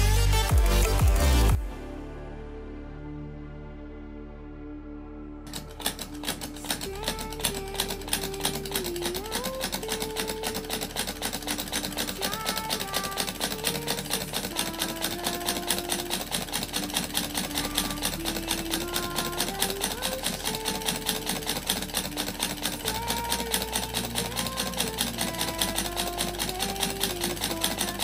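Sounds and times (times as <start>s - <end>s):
faint music: 0.0s - 28.0s
small engine linkage clattering: 5.5s - 28.0s.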